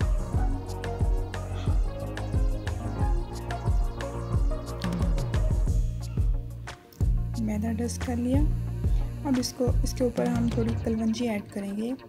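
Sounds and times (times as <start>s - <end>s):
deep kick drum: 0.0s - 7.4s, 8.1s - 10.9s
held bass notes: 0.0s - 11.2s.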